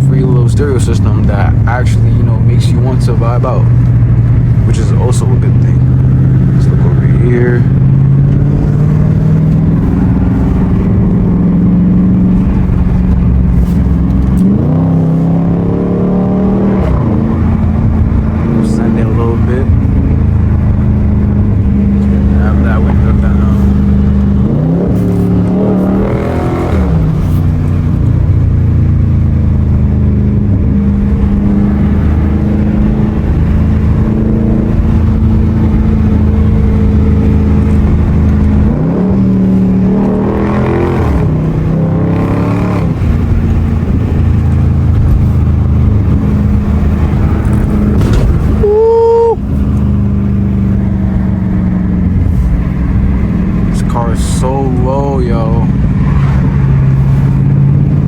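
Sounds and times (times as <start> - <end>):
car engine accelerating and droning: 0.0 - 58.0.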